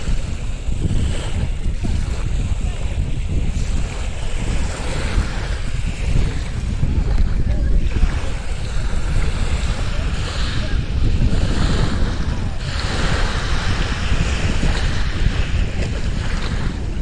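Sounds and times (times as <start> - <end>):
small waves breaking on beach: 0.0 - 17.0
wind rumble on microphone: 0.0 - 17.0.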